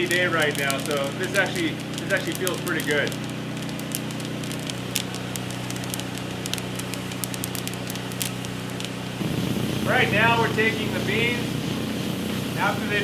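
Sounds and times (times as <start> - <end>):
coffee beans crackling: 0.0 - 13.0
roaster motor and fan hum: 0.0 - 13.0.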